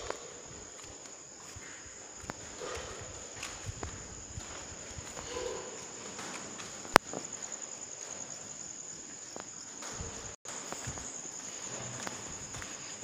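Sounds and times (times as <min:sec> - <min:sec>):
footsteps on concrete: 0:00.0 - 0:13.0
high-pitched insect trill: 0:00.0 - 0:13.0.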